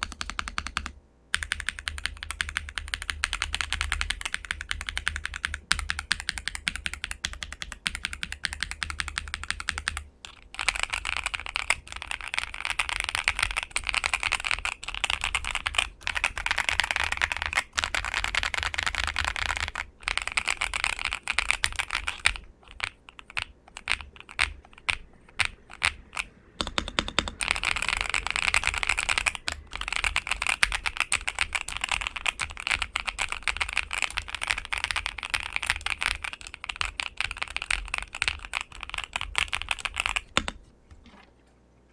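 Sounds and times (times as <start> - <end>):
typing on mechanical keyboard: 0.0 - 40.7.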